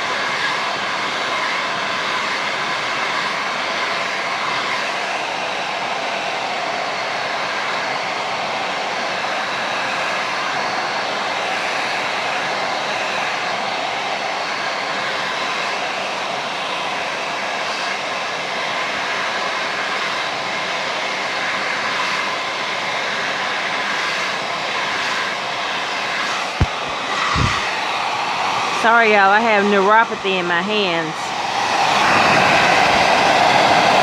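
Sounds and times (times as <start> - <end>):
blow dryer running: 0.0 - 34.0.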